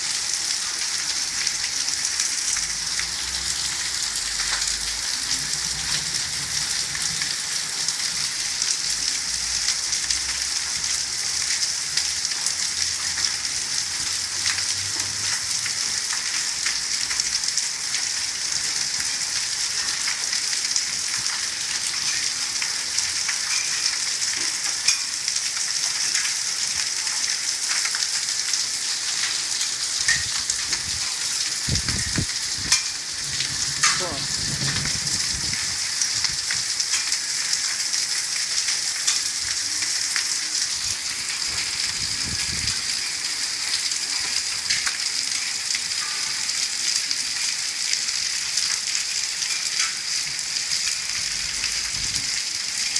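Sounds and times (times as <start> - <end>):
heavy rain pouring: 0.0 - 52.9
rain ticking on surfaces: 0.0 - 52.9.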